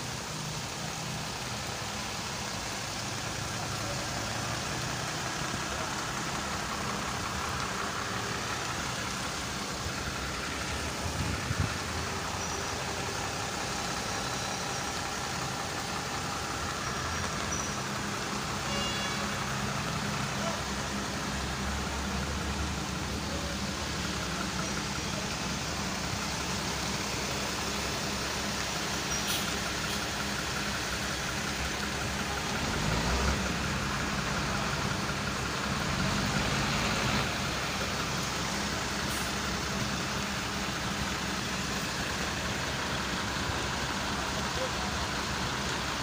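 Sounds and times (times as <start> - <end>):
diesel engines running: 0.0 - 46.0
heavy rain hissing: 0.0 - 46.0.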